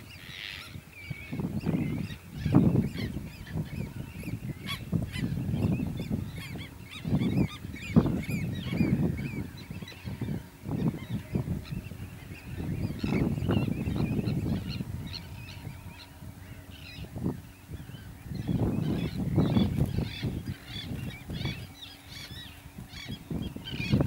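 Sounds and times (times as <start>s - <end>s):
high chirping bird calls: 0.0s - 24.0s
waterbirds low calls: 0.0s - 24.0s.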